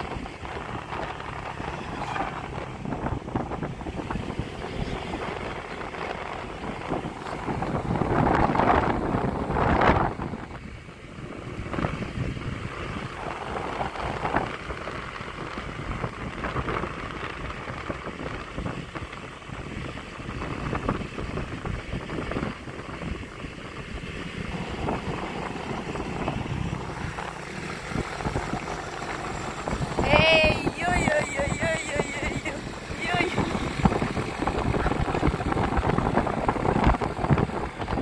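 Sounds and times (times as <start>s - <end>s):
rumbling of moving vehicle: 0.0s - 38.0s
wind buffeting microphone: 0.0s - 38.0s.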